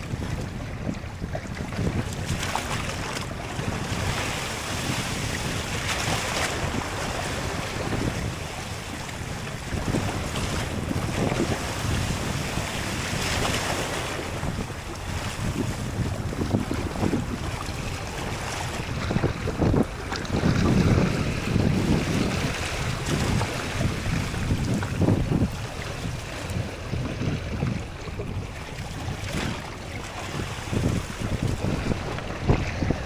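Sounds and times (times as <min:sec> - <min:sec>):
sea waves: 0:00.0 - 0:33.0
wind buffeting microphone: 0:00.0 - 0:33.0.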